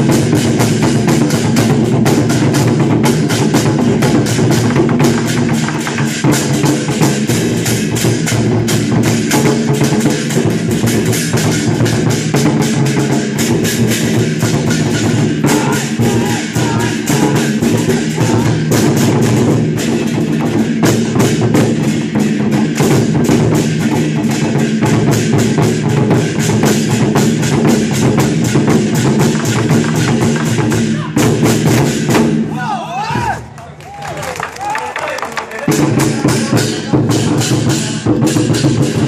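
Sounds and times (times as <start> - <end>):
large drums beating fast: 0.0 - 33.5, 35.2 - 39.0.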